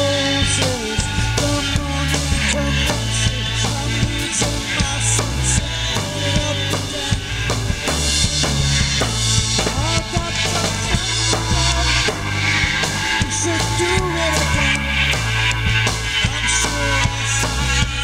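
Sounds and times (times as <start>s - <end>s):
bass guitar notes: 0.0s - 18.0s
drum kit beat: 0.0s - 18.0s
electric guitars: 0.0s - 18.0s.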